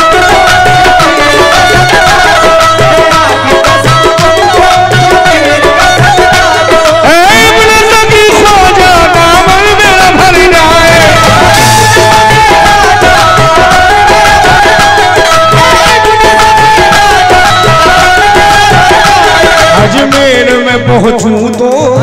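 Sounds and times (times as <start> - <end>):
chorus singing: 0.0 - 20.5
hand drum rhythm: 0.0 - 22.0
harmonium melody: 0.0 - 22.0.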